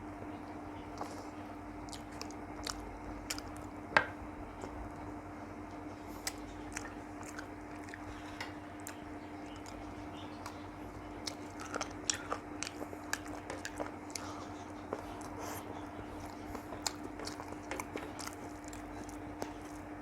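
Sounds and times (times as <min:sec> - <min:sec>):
steady low hum: 0:00.0 - 0:20.0
person chewing food: 0:00.9 - 0:20.0.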